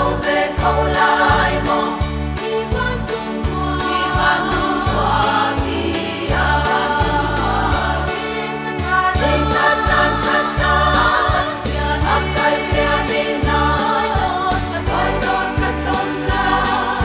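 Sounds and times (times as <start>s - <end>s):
bass line: 0.0s - 8.1s, 8.8s - 17.0s
women's choir singing: 0.0s - 17.0s.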